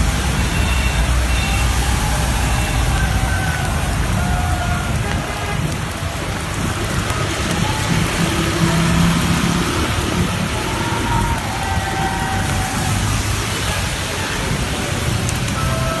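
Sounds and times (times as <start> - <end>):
heavy rain and hail: 0.0 - 16.0.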